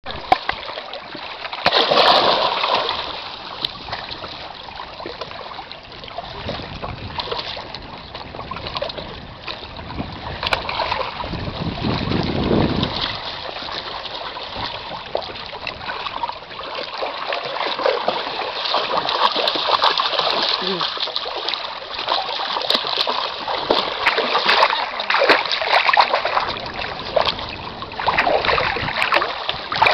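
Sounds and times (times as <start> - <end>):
dog splashing through water: 0.3 - 5.6, 10.2 - 29.9.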